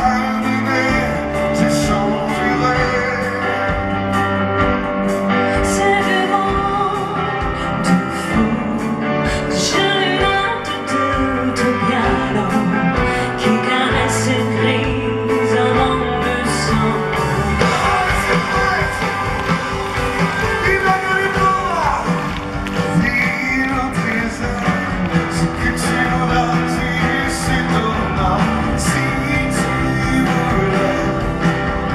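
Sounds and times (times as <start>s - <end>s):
person singing with vibrato: 0.0s - 31.9s
pop band playing: 0.0s - 31.9s.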